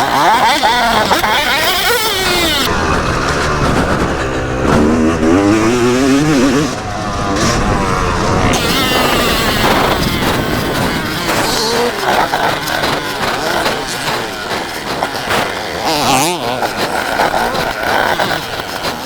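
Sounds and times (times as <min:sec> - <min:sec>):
motocross engine revving: 0:00.0 - 0:19.0.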